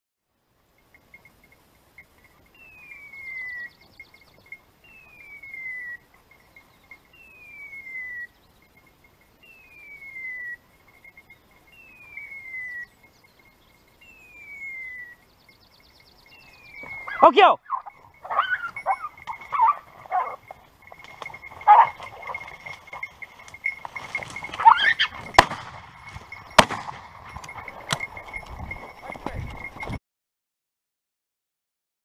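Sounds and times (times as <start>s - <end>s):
faint broken higher tone: 0.8s - 29.9s.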